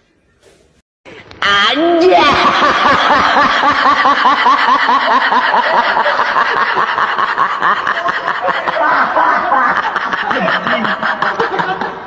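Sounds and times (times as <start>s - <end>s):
person snickering: 2.1s - 12.0s.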